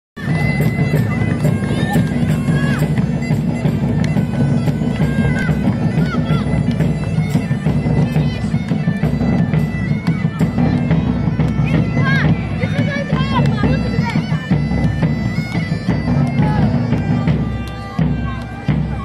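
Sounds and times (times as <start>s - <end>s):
drum beats: 0.2s - 19.0s
reedy melody: 0.2s - 19.0s.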